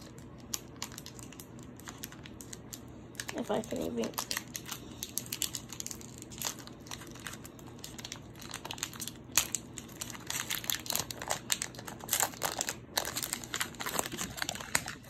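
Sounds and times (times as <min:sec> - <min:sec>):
foil wrapper crinkling: 0:00.0 - 0:15.0
foil wrapper tearing: 0:00.0 - 0:15.0.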